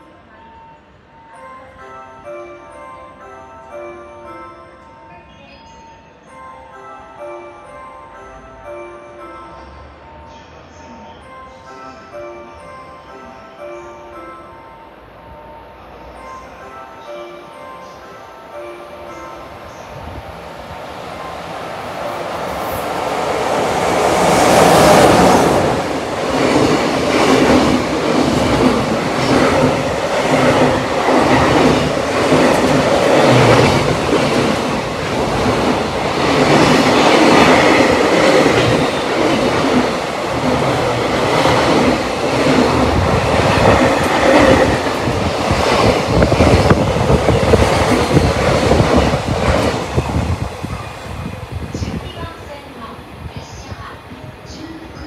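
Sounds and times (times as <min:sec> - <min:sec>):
electric locomotive passing: 0:00.0 - 0:55.0.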